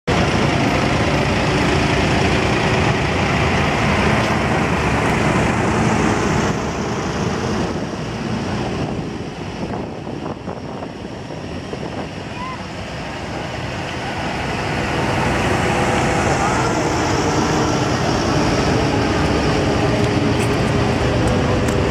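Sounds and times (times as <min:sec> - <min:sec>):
tractor diesel engines passing: 0:00.1 - 0:21.9.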